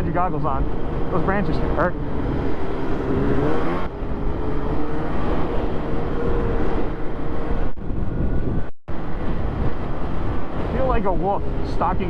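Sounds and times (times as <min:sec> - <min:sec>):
snowmobile engine whine: 0:00.0 - 0:12.0
track rumbling: 0:00.0 - 0:12.0
wind: 0:00.0 - 0:12.0.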